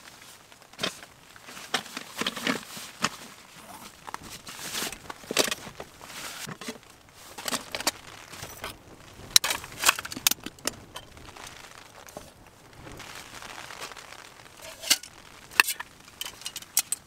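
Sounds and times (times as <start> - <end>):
nylon sack rustling: 0.0 - 16.2.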